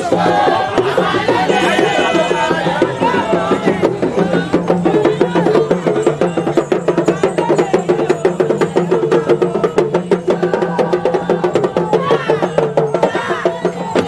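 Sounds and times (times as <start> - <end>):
fast drumming and percussion: 0.0 - 14.0.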